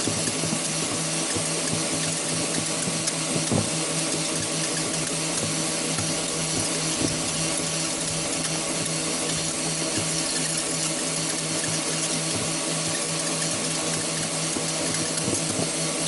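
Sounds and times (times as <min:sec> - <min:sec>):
power tool motor running: 0:00.0 - 0:16.0
spinning blade shredding: 0:00.0 - 0:16.0.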